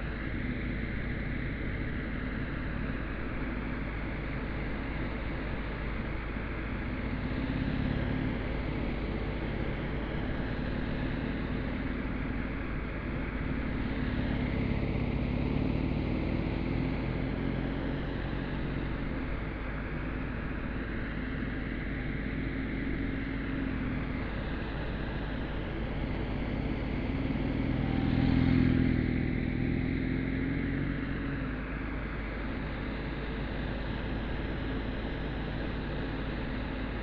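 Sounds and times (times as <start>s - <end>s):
motorcycle engine at low revs: 0.0s - 37.0s.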